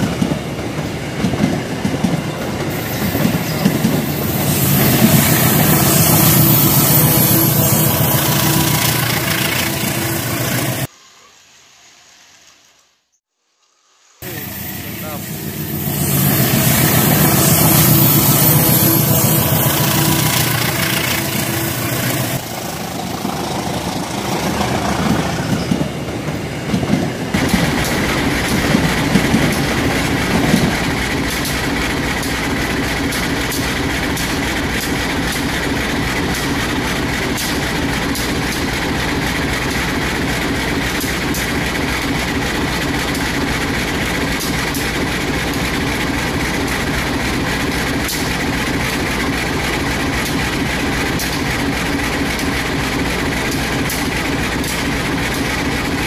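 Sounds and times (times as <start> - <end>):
model train running on track: 0.0 - 10.9, 14.2 - 56.0.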